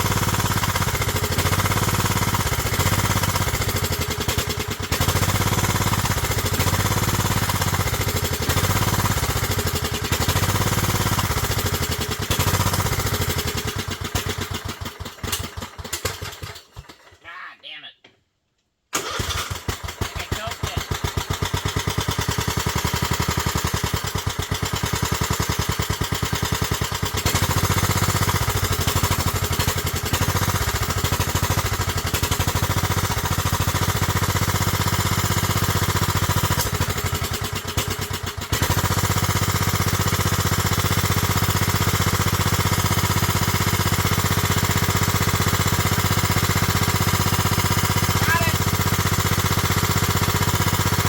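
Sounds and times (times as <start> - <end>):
lawn mower engine running: 0.0 - 17.2, 18.9 - 51.0.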